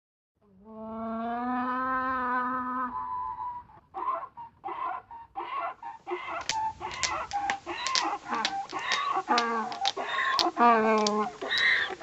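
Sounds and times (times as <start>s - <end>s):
donkey braying: 0.8s - 12.0s.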